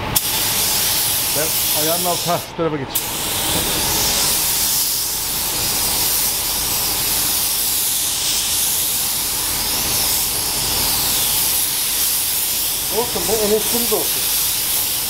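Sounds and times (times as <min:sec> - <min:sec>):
spray gun hissing: 0:00.2 - 0:15.0.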